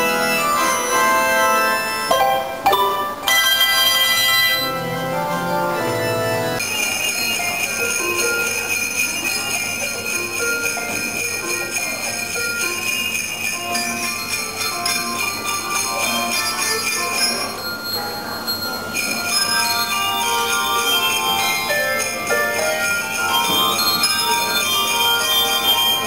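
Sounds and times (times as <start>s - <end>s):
handbell choir ringing: 0.0s - 26.0s.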